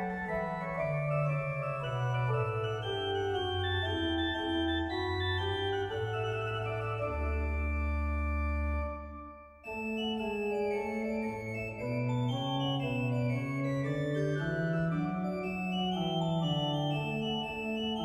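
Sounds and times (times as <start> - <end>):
pipe organ playing: 0.0 - 18.0.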